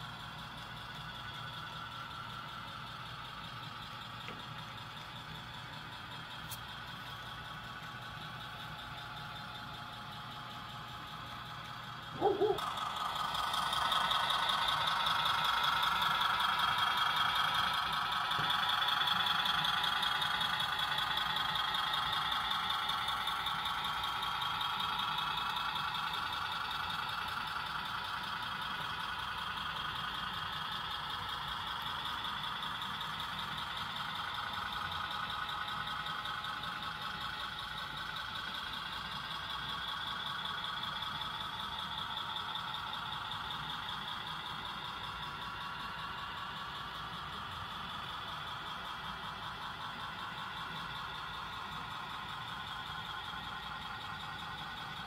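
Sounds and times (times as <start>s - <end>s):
model train whirring on track: 0.0s - 55.0s.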